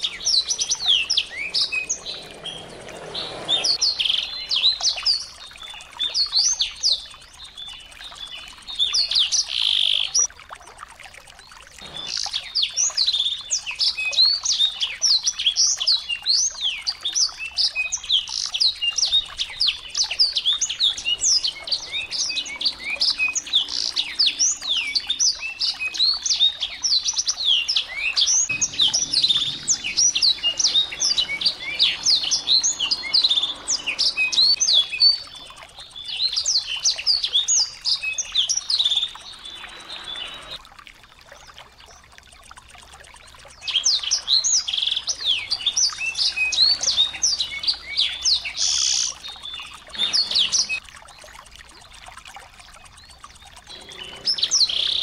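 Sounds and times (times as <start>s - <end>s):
songbird twittering song: 0.0s - 10.3s, 11.2s - 40.6s, 41.3s - 55.0s.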